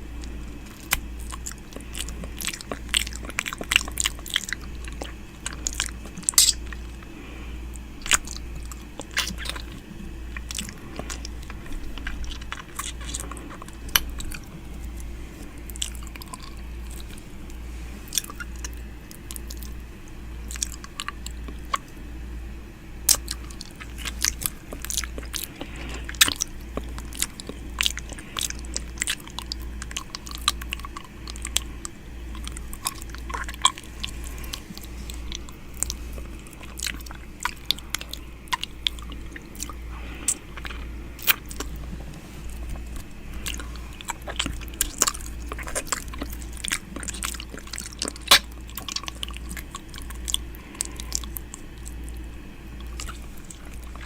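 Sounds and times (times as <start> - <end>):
wet mouth sounds: 0.0 - 22.0, 23.0 - 54.0
low steady hum: 0.0 - 54.0.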